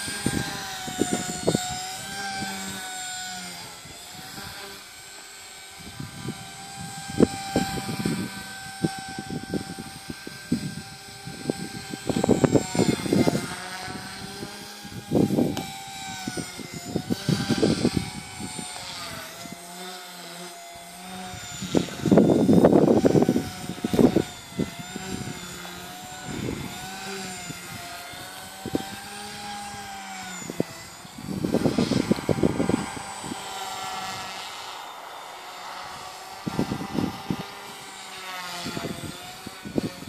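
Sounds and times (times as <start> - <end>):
helicopter motor whine: 0.0 - 40.0
wind rumble on microphone: 0.0 - 40.0.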